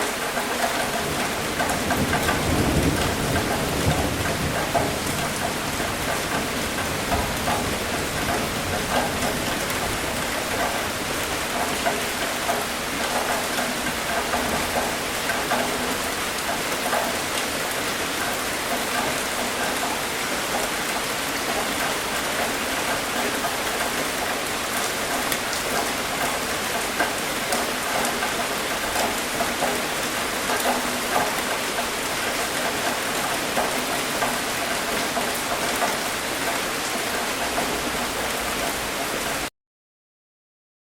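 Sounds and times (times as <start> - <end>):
rain pattering: 0.0 - 39.5.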